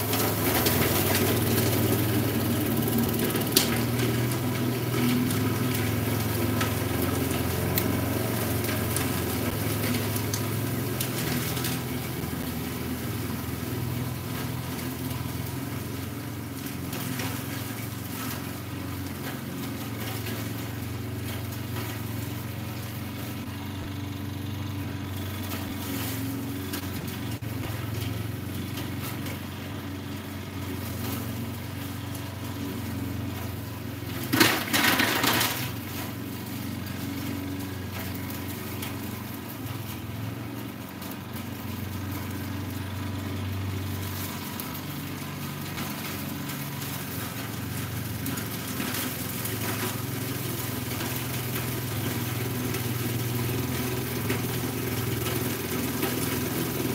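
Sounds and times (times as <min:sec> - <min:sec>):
distant lawn mower engine: 0:00.0 - 0:56.9.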